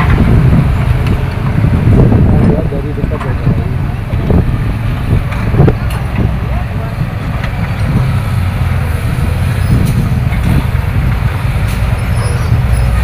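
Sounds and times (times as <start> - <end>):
excavator diesel engines droning: 0.0 - 13.0.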